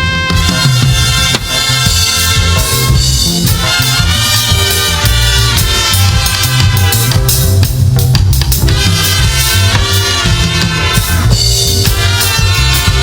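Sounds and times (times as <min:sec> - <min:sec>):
live band playing upbeat groove: 0:00.0 - 0:13.0.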